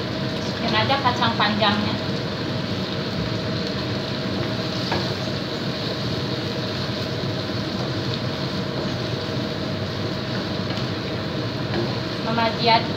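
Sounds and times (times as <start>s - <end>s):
curry simmering in a wok: 0.0s - 12.9s
steady background hum: 0.0s - 12.9s.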